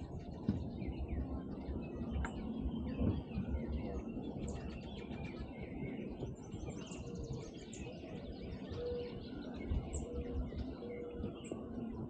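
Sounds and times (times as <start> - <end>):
constant low rumble: 0.0 - 12.0
songbirds chirping and singing: 0.0 - 12.0.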